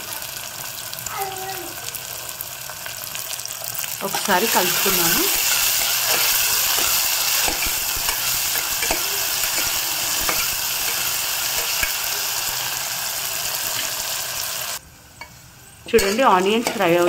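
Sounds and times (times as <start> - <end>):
onions sizzling in oil: 0.0 - 14.8, 15.8 - 17.0.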